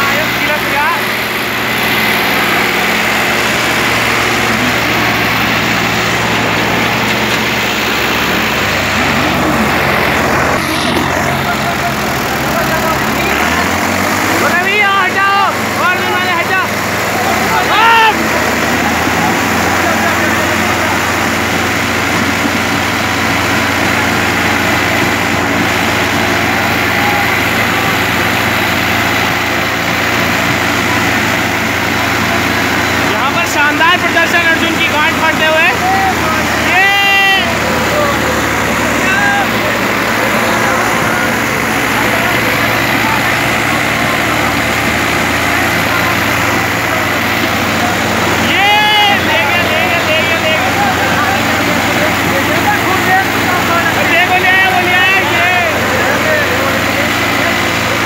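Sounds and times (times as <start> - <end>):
tractor engines under load: 0.0 - 58.0
tyres spinning in dirt: 0.0 - 58.0.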